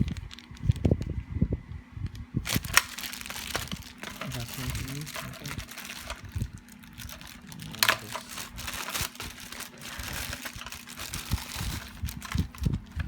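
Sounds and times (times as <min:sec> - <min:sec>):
packaging crinkling and rustling: 0:00.0 - 0:01.2, 0:02.1 - 0:13.0.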